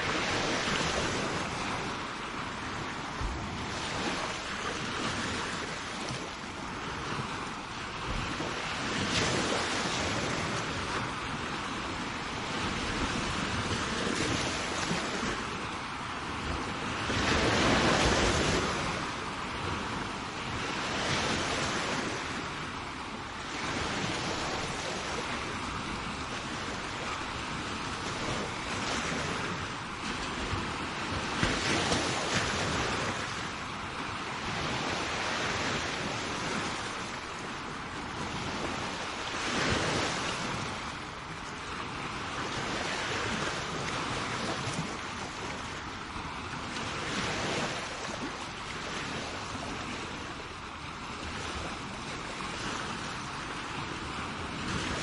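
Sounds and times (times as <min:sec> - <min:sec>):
sea waves breaking on shore: 0:00.0 - 0:55.0
wind buffeting microphone: 0:00.0 - 0:55.0.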